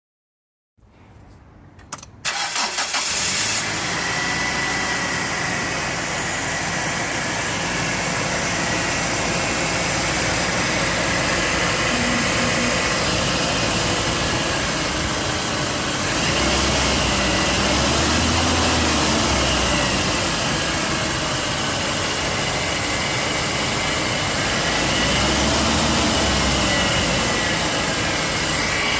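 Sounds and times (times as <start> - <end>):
vehicle engine running: 3.1 - 28.9.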